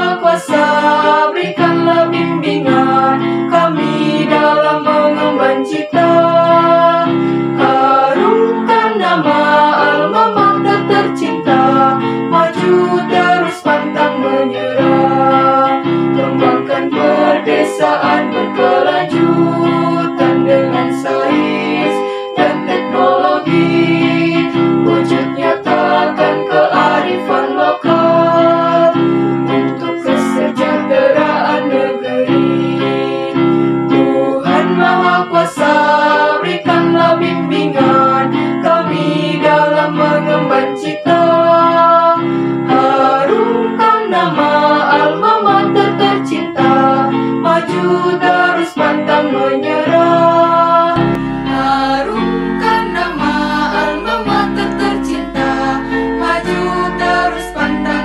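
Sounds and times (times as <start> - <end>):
group singing a march: 0.0 - 58.0
instrumental accompaniment: 0.0 - 58.0.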